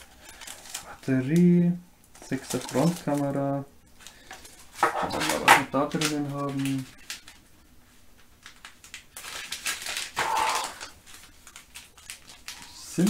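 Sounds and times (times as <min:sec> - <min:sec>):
rustling of small parts: 0:00.0 - 0:01.4, 0:02.1 - 0:13.0.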